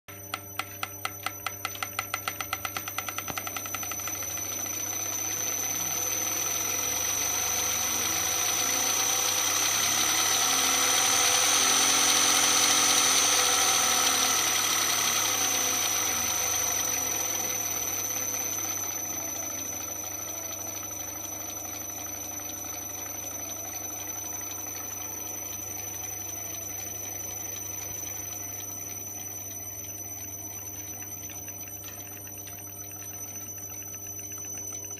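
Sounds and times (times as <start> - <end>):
fuel injection pump ticking: 0.1 - 34.9.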